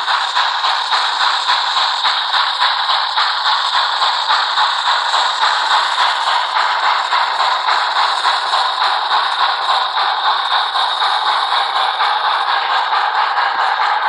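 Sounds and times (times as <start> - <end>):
model locomotive steam chuffing: 0.0 - 14.0.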